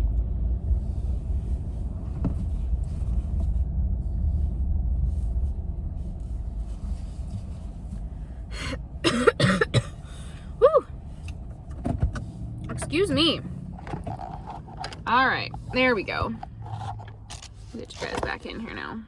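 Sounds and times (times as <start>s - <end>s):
car rumble inside cabin: 0.0s - 19.0s.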